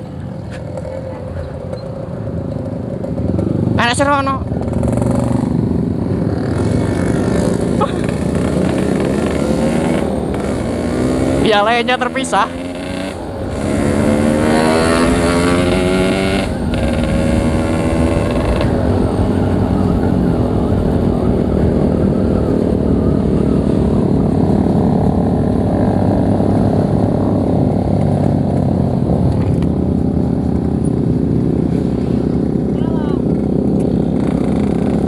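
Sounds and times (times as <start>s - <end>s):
two-stroke motorcycle engine accelerating: 0.0s - 35.0s.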